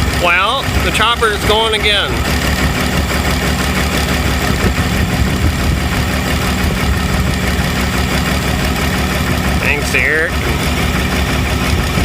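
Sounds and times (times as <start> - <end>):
forage chopper machinery noise: 0.0 - 12.0
tractor engine drone: 0.0 - 12.0.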